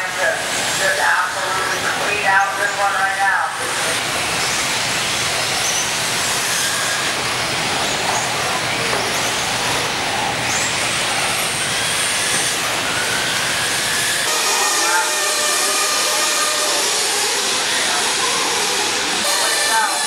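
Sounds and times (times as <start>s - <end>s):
radio-control cars racing: 0.0s - 4.8s, 7.8s - 20.0s
high motor whines: 0.0s - 20.0s.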